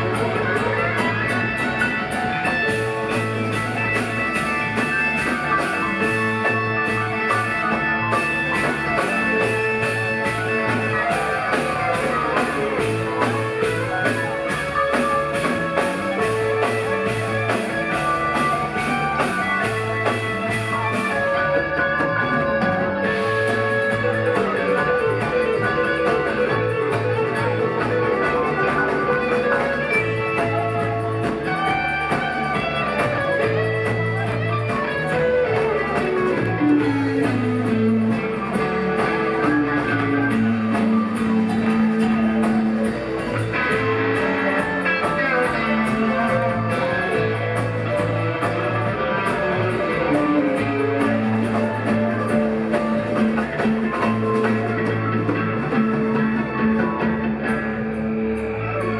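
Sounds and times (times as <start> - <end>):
bass: 0.0 - 58.9
electric lead guitar: 0.0 - 58.9
keyboards: 0.0 - 58.9
percussion: 0.0 - 58.9.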